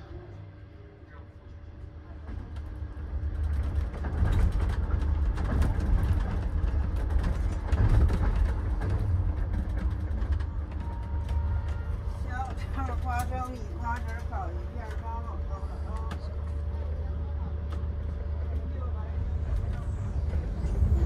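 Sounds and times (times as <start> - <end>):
train car low rumble: 0.0 - 21.0.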